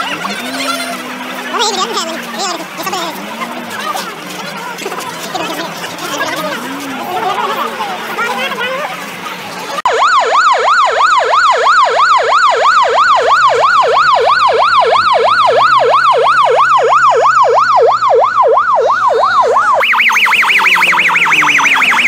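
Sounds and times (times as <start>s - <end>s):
ambulance siren wailing: 0.0s - 9.2s, 9.8s - 22.0s.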